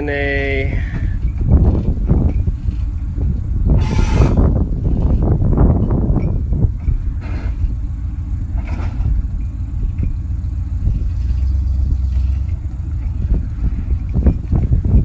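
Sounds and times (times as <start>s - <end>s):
vehicle engine running: 0.0s - 15.0s
metal clanks: 0.9s - 15.0s.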